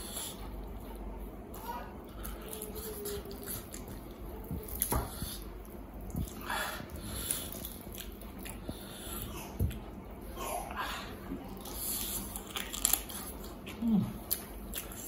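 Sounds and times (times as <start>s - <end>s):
wet chewing and lip-smacking: 0.3s - 10.0s, 11.5s - 15.0s.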